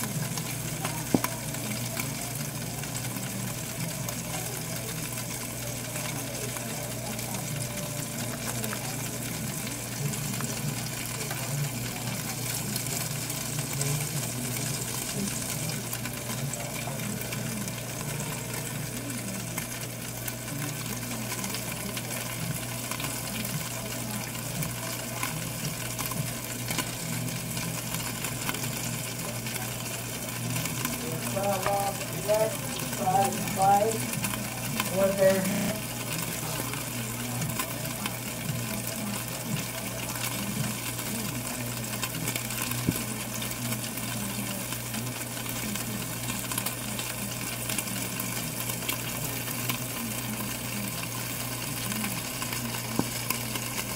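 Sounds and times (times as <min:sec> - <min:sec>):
cheese sizzling: 0:00.0 - 0:53.9
toaster oven humming: 0:00.0 - 0:53.9.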